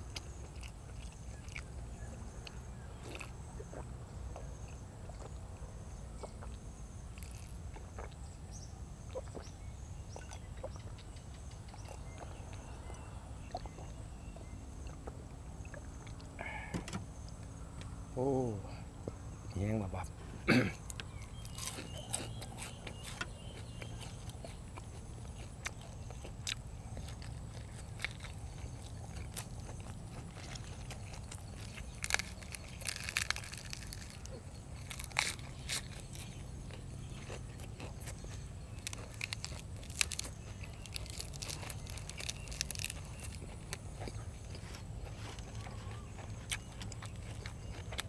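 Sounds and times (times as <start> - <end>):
person chewing crunchy food: 0.0 - 17.6, 20.2 - 48.0.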